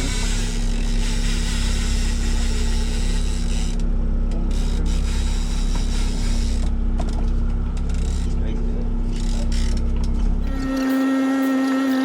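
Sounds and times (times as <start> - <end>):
boat engine running steadily: 0.0 - 11.0.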